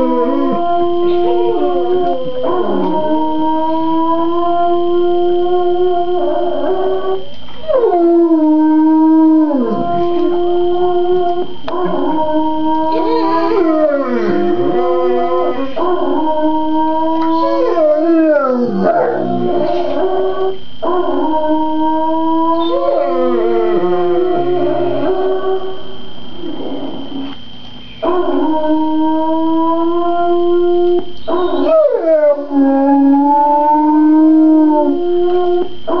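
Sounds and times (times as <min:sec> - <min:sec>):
dog howling: 0:00.0 - 0:25.8, 0:28.0 - 0:36.0.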